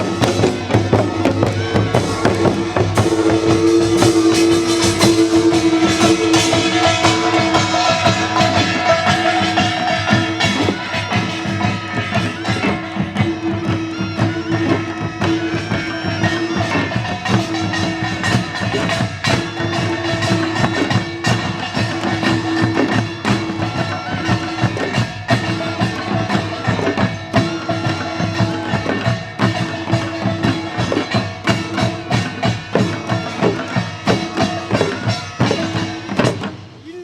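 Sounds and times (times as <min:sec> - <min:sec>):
fast percussion strikes: 0:00.0 - 0:37.0
held instrumental tone: 0:00.0 - 0:37.0.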